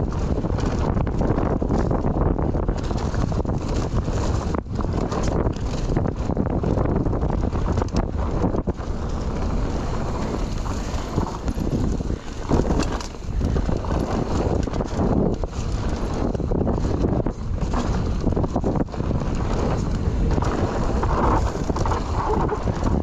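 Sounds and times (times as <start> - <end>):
bike rattling over bumps: 0.0 - 23.0
bike tyres rumbling on dirt: 0.0 - 23.0
wind buffeting microphone: 0.0 - 23.0.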